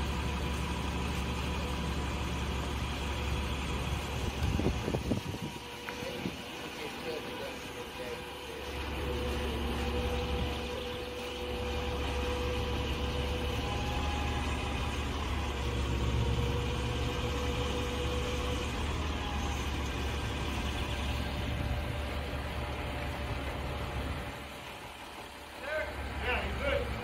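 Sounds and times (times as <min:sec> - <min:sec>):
large engine idling: 0:00.0 - 0:27.0.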